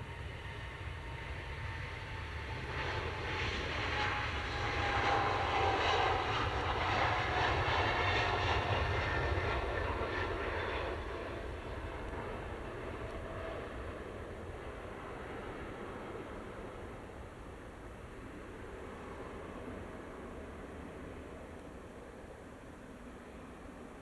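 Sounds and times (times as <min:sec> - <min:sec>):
jet engines passing by: 0:00.0 - 0:24.0.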